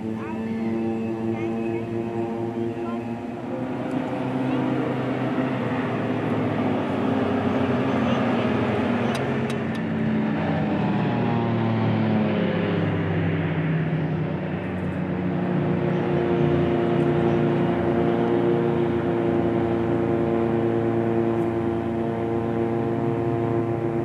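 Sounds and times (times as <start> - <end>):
propeller aircraft flying past: 0.0 - 24.0.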